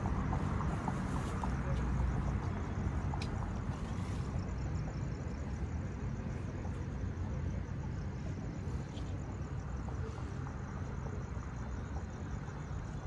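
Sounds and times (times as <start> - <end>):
city road rumble: 0.0 - 13.0.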